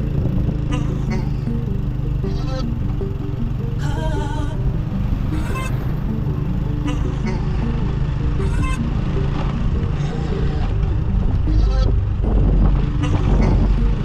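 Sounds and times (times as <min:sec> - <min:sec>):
short melodic notes: 0:00.0 - 0:14.0
vehicle engine running: 0:00.0 - 0:14.0.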